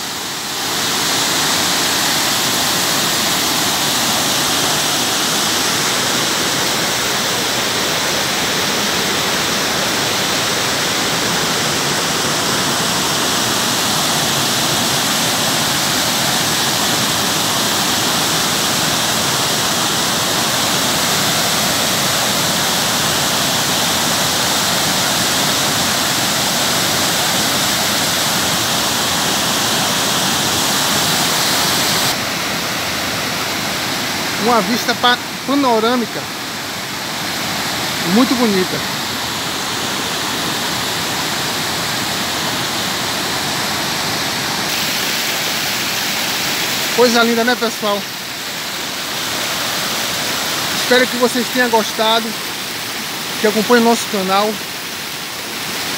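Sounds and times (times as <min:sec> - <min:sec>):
waterfall rushing over rocks: 0:00.0 - 0:55.9.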